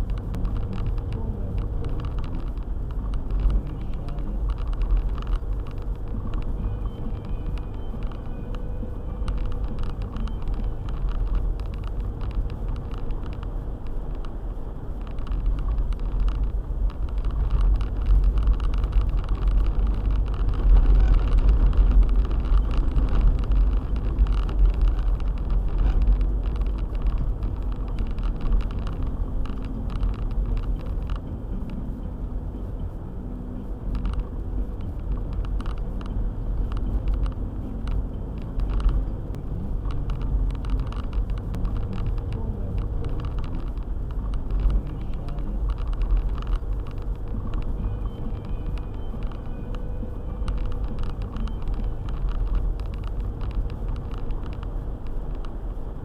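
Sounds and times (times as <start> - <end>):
car engine and road rumble: 0.0 - 56.0
faint ticks: 0.0 - 56.0.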